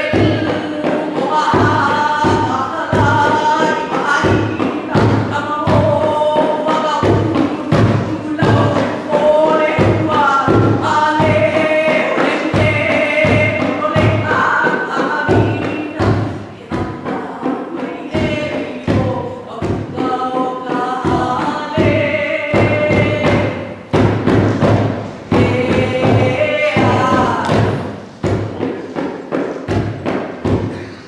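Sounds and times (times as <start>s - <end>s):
low drum beats: 0.0s - 31.0s.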